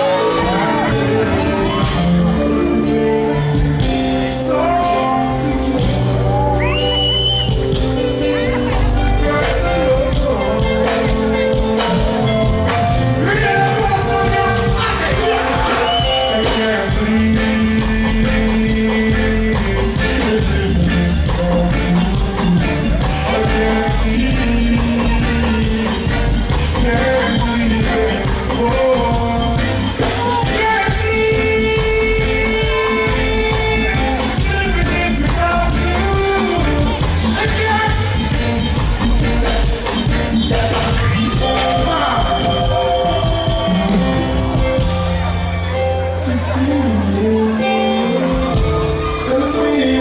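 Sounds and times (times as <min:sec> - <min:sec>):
man singing: 0:00.0 - 0:44.9, 0:45.7 - 0:50.0
live band playing pop ballad: 0:00.0 - 0:50.0.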